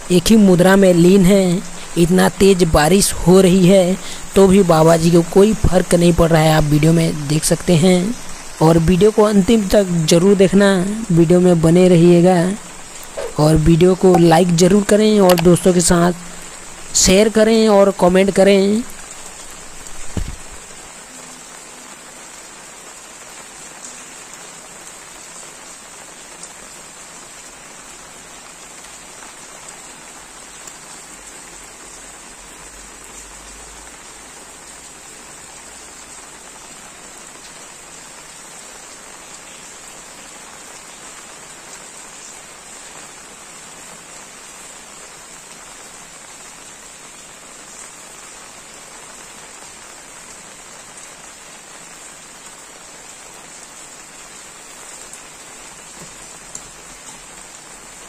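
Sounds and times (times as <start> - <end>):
heavy rain downpour: 0.0 - 58.0
louder raindrops: 0.0 - 58.0.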